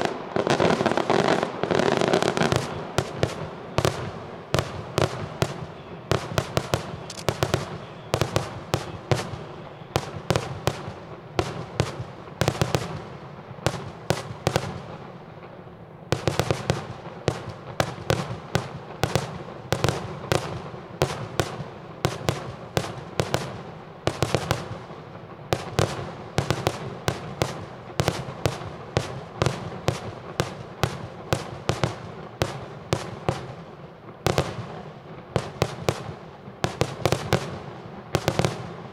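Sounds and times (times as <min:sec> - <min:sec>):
firework bangs: 0:00.0 - 0:38.9
firework crackle: 0:00.0 - 0:38.9.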